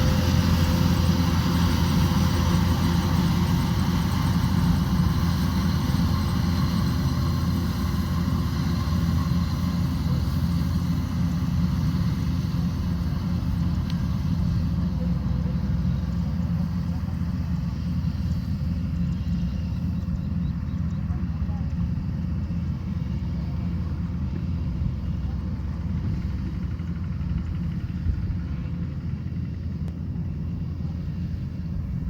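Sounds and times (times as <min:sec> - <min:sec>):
combine harvester engine and threshing: 0:00.0 - 0:32.0.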